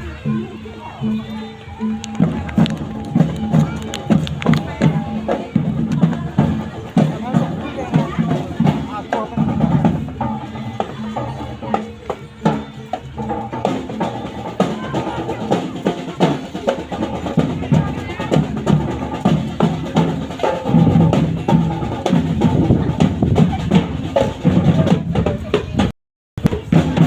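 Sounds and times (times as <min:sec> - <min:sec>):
drums beating steadily: 0:00.0 - 0:27.0.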